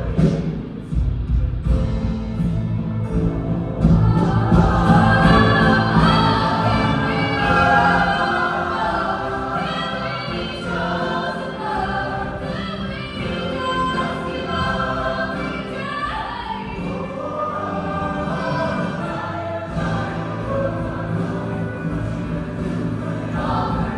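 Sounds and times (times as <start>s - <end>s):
low accompaniment: 0.0s - 23.9s
choir singing: 3.0s - 23.9s.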